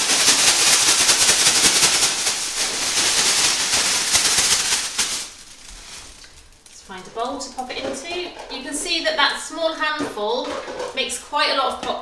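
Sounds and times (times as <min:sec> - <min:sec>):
popcorn rattling in plastic bag: 0:00.0 - 0:11.2.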